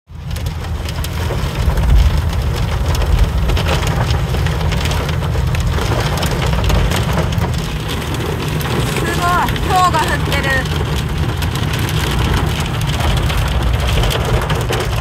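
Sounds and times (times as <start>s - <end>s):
car driving rumble: 0.1s - 15.0s
hail and rain drumming on car: 0.1s - 15.0s.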